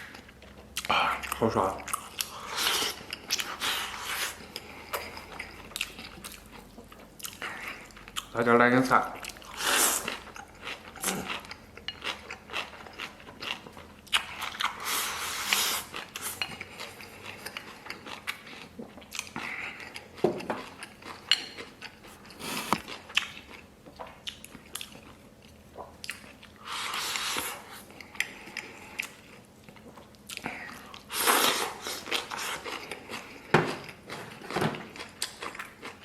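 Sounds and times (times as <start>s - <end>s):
person chewing and biting: 0.0s - 8.4s, 9.2s - 36.0s.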